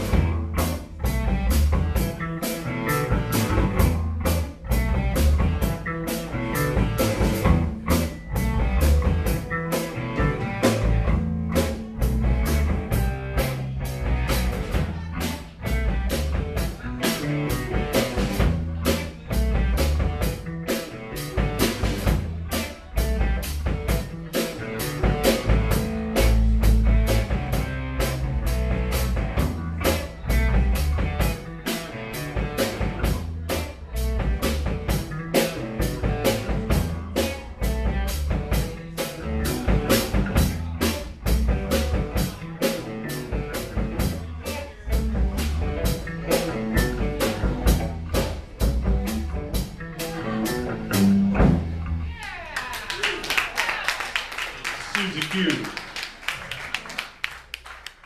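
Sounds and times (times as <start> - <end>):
drum kit: 0.0 - 52.0
amplified electric guitars: 0.0 - 52.1
live rock band playing: 0.0 - 52.1.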